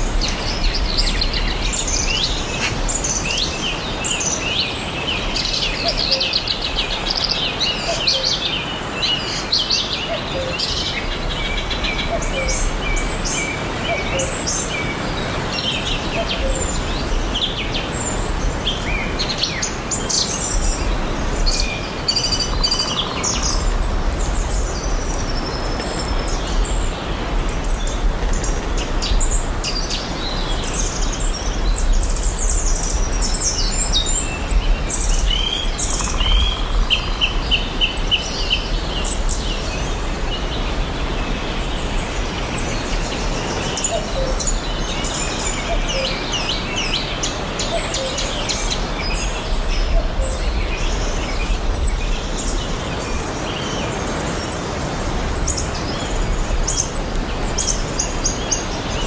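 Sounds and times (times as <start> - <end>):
birds chirping and singing: 0.0 - 59.0.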